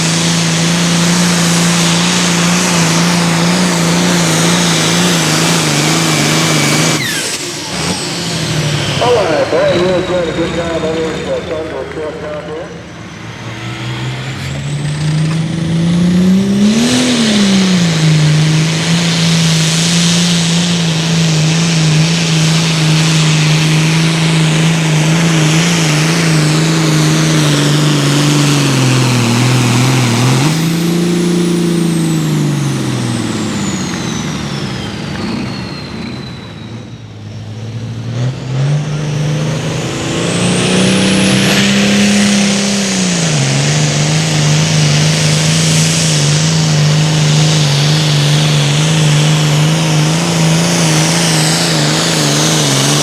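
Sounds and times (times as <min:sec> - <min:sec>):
diesel engine at high revs: 0:00.0 - 0:53.0.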